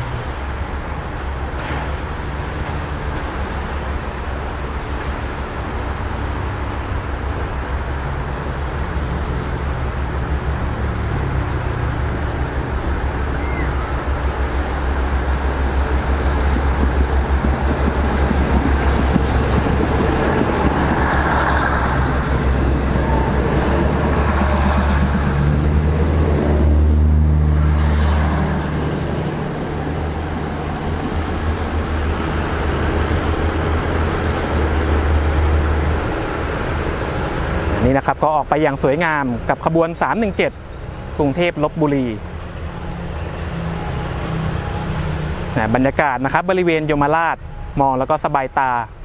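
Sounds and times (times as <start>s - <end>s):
diesel train passing: 0.0s - 49.0s.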